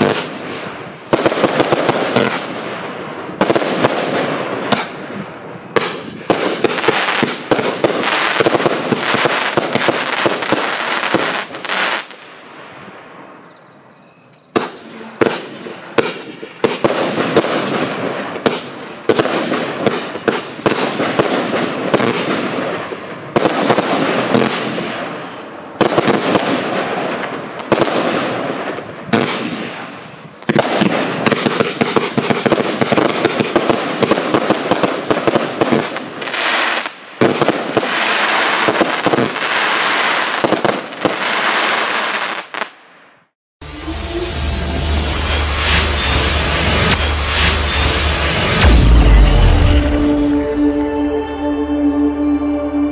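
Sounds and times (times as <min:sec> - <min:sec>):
fireworks shots and bursts: 0:00.0 - 0:13.2, 0:14.5 - 0:42.9, 0:43.6 - 0:50.4.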